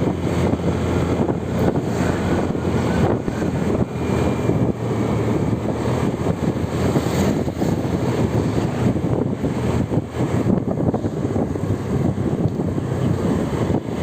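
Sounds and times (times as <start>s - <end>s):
vehicle and road noise: 0.0s - 14.0s
wind on microphone: 0.0s - 14.0s.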